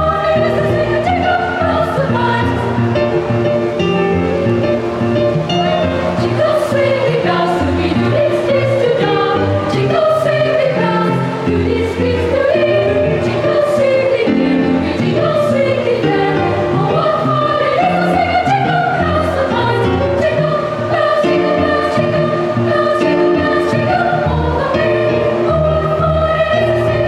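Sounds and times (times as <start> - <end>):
children's choir singing: 0.0 - 4.0, 4.9 - 27.0
instrumental accompaniment: 0.0 - 27.0.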